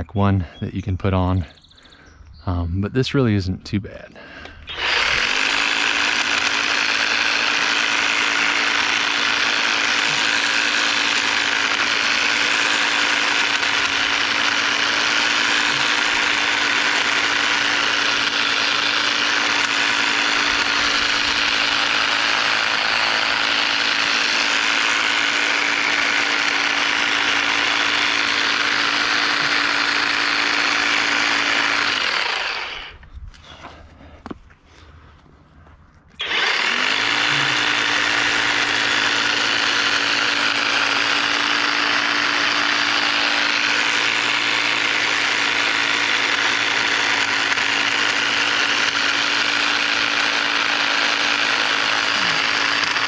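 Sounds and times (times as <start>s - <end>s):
hedge trimmer running: 4.2s - 34.4s, 36.2s - 53.0s.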